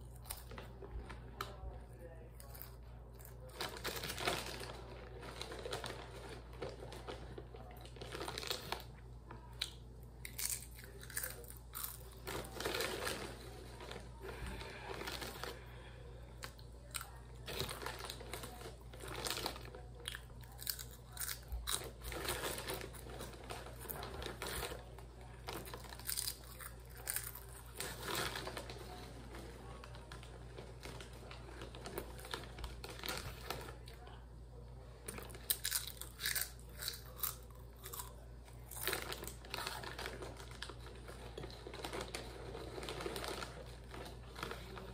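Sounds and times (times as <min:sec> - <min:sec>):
chips crunching: 0:00.0 - 0:01.7, 0:02.3 - 0:34.2, 0:35.0 - 0:44.9.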